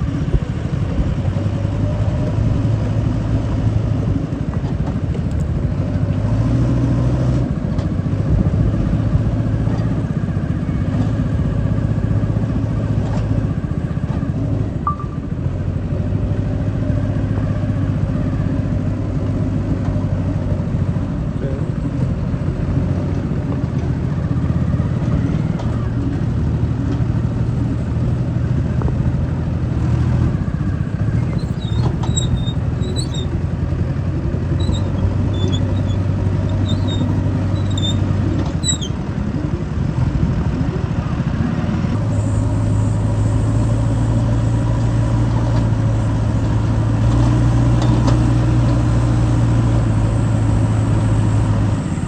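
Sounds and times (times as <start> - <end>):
backhoe diesel engine working: 0.0 - 52.0.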